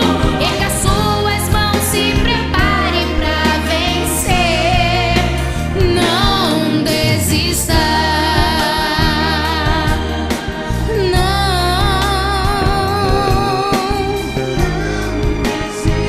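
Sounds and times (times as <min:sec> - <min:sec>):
bass and drums: 0:00.0 - 0:16.0
gospel singer with vibrato: 0:00.0 - 0:16.0.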